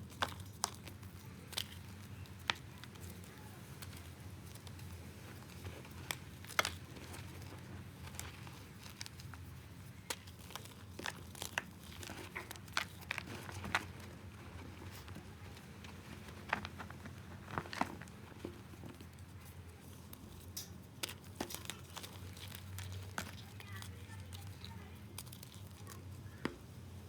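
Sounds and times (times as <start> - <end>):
chalk crunching and crackling: 0.0 - 27.0.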